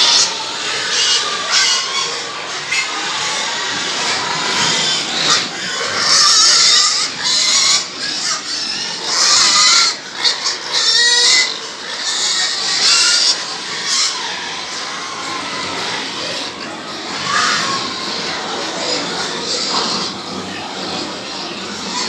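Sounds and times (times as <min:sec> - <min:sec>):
pigs grunting: 0:00.0 - 0:22.0
pigs squealing: 0:00.0 - 0:22.0.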